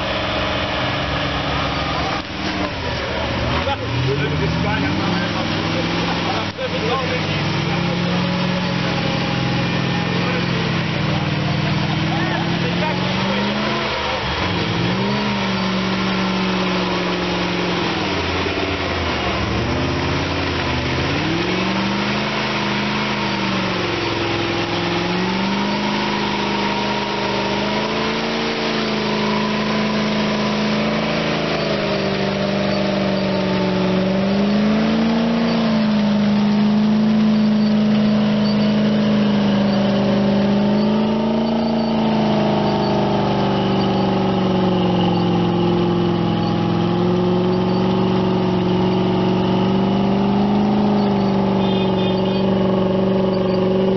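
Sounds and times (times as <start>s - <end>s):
engine revving hard: 0.0s - 53.9s.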